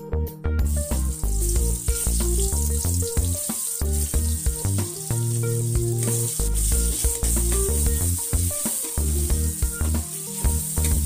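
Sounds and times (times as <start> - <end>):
background music: 0.0 - 11.0
shallots sizzling in hot oil: 0.6 - 11.0.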